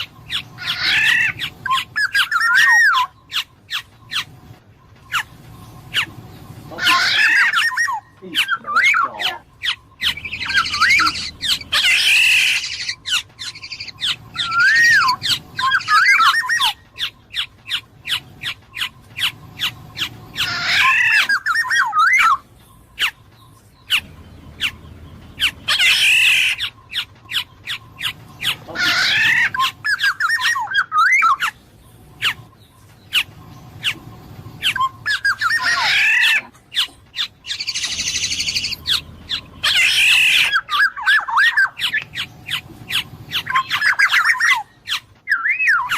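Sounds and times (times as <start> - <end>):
bird singing fluty whistles: 0.0 - 36.2, 37.2 - 45.9.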